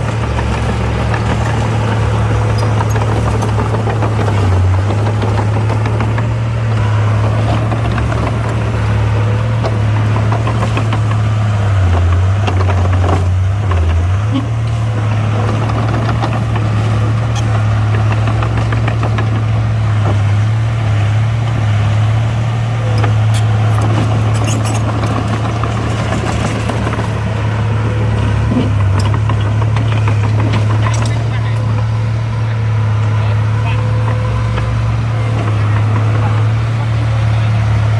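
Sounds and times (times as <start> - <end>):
diesel engine humming: 0.0 - 37.9.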